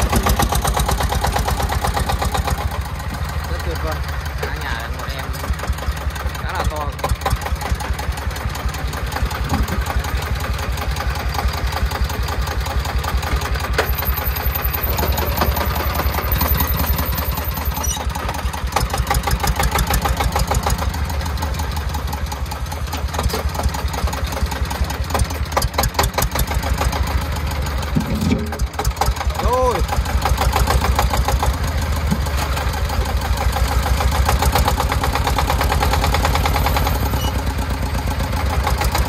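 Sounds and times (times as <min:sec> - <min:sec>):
diesel engine chugging: 0:00.0 - 0:39.0.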